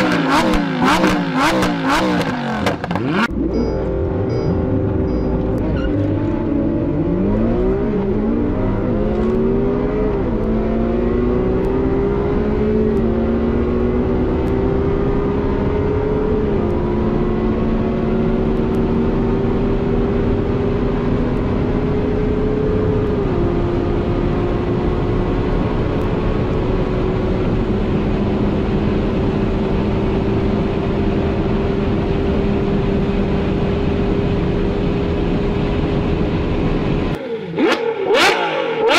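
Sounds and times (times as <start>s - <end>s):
engines at full throttle: 0.0s - 38.9s.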